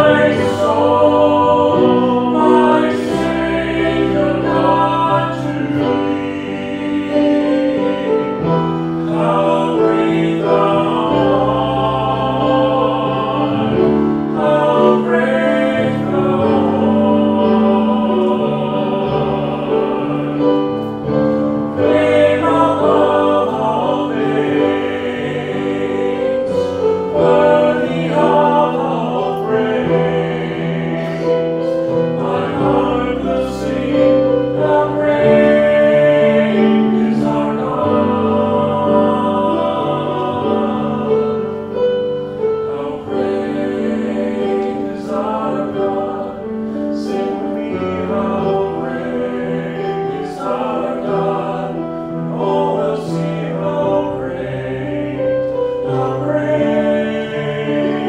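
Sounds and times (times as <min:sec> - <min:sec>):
two men singing: 0:00.0 - 0:20.8, 0:21.8 - 0:41.5, 0:42.7 - 0:58.0.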